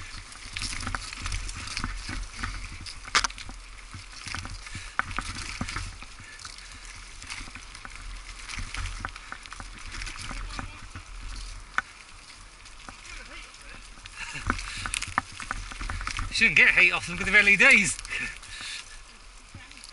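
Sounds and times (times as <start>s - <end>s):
bicycle clattering over dirt trail: 0.0s - 19.9s.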